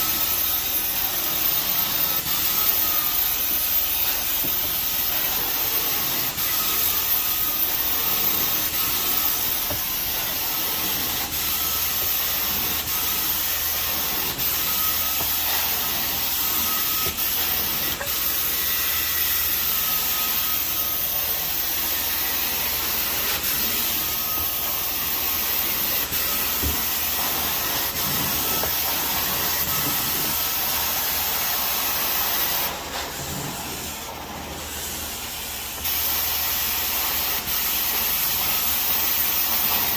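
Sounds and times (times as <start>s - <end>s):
carpet cleaning wand hissing: 0.0s - 39.9s.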